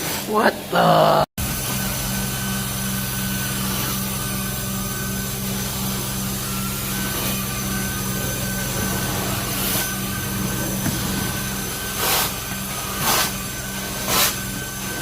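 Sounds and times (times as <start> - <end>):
carpet cleaning machine motor drone: 1.4 - 15.0.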